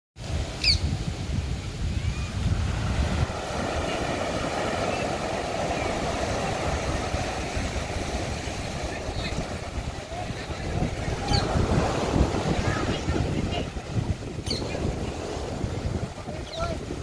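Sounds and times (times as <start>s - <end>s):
surf washing on a beach: 0.2s - 17.0s
wind buffeting the microphone: 0.2s - 17.0s.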